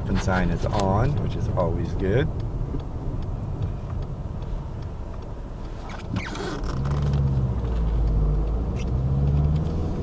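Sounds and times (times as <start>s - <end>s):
road rumble: 0.0s - 10.0s.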